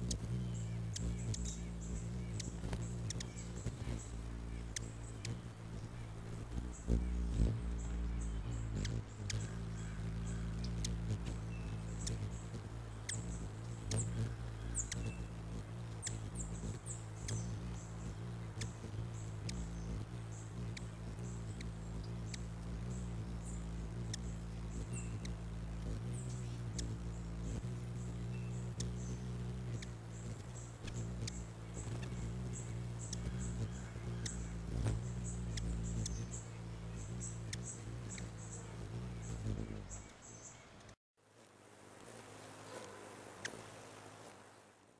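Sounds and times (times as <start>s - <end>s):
sharp ticks: 0.0s - 40.2s
hummingbird chip notes: 0.0s - 40.9s
steady low hum: 0.0s - 41.0s.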